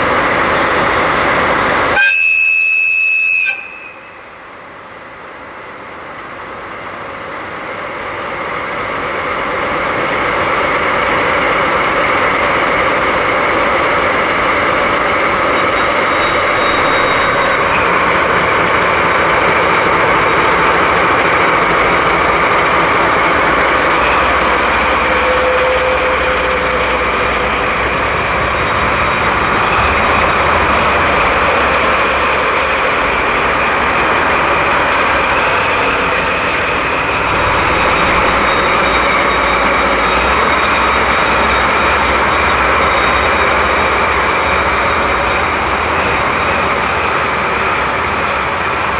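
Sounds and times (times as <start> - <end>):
diesel locomotive engines running: 0.0 - 48.9.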